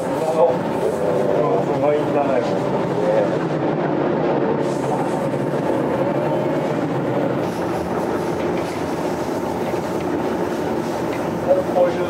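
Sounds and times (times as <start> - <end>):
workshop machinery running: 0.0 - 12.0.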